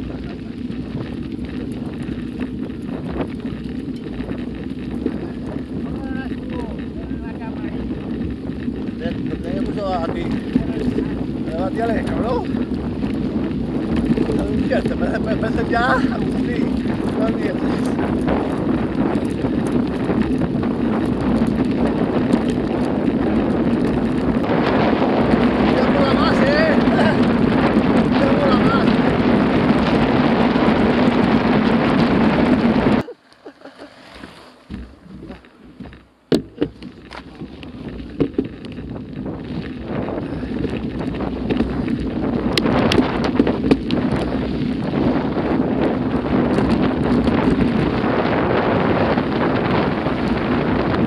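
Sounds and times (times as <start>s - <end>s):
bike rattling: 0.0s - 51.0s
tyres crunching over loose stones: 0.0s - 51.0s
wind rumble on microphone: 0.0s - 51.0s.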